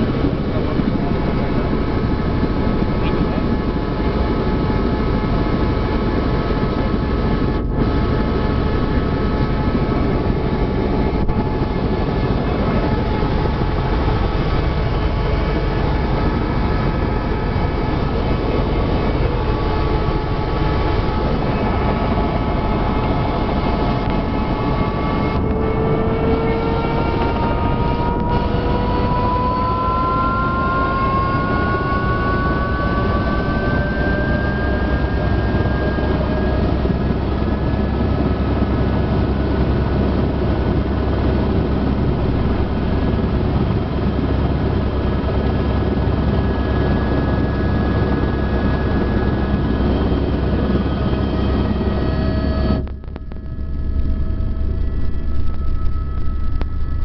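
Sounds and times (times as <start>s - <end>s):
helicopter engine drone and whine: 0.0s - 57.0s.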